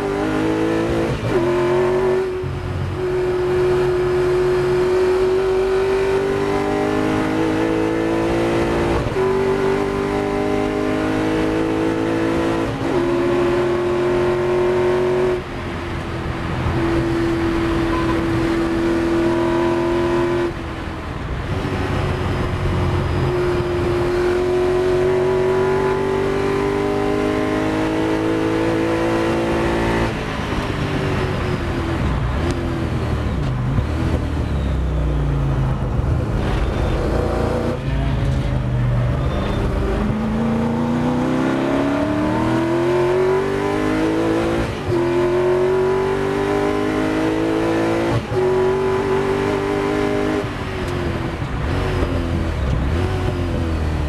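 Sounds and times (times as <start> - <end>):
racing engine at full throttle: 0.0 - 54.0.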